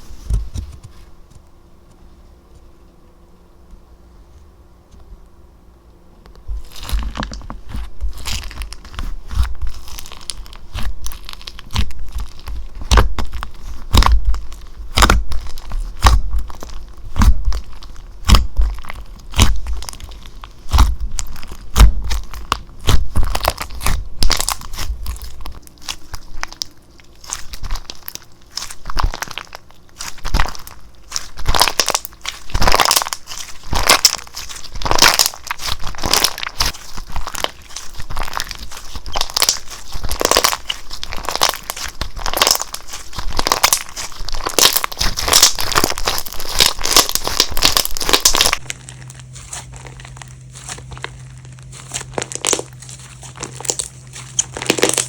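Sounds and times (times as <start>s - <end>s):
slime squished by hand: 6.4s - 55.0s.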